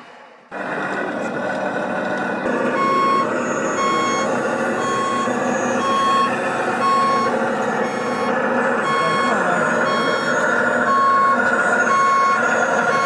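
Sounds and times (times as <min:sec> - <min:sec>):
steady running noise: 0:00.5 - 0:13.0
high reversing beeps: 0:02.5 - 0:13.0.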